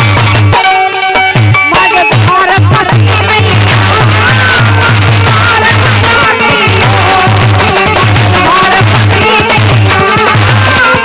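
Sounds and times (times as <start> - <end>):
sustained folk melody: 0.0 - 11.0
low drum beat: 1.3 - 11.0.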